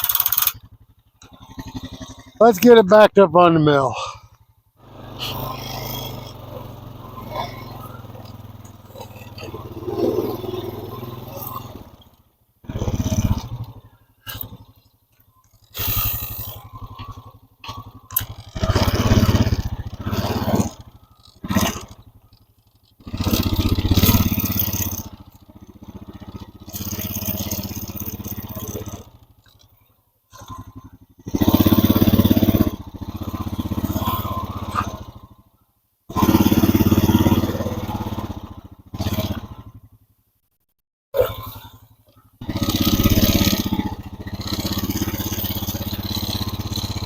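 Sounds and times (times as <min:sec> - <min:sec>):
small vehicle engine running: 0:00.0 - 0:47.0.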